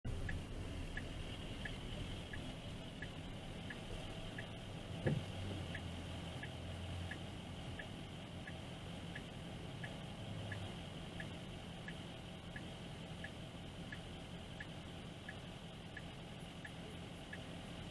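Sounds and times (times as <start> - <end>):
low engine hum: 0.0 - 17.9
turn signal ticking: 0.1 - 17.9.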